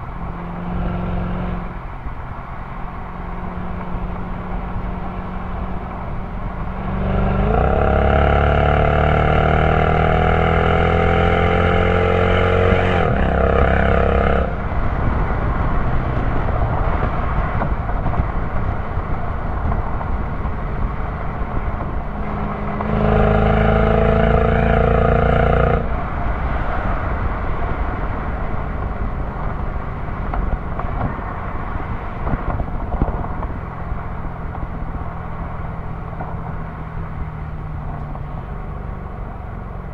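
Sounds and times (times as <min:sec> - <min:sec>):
car exhaust under throttle: 0:00.0 - 0:39.9
wind and road noise: 0:00.0 - 0:39.9.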